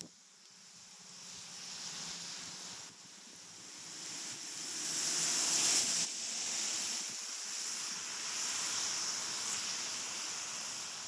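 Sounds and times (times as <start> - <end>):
steady rain falling: 0.0 - 11.0
car tyres hissing on wet road: 0.1 - 11.0.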